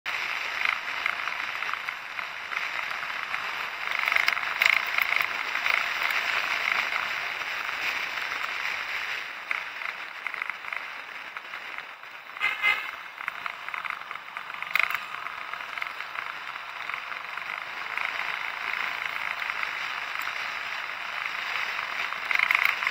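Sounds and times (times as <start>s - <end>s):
crackly road travel noise: 0.1s - 22.9s.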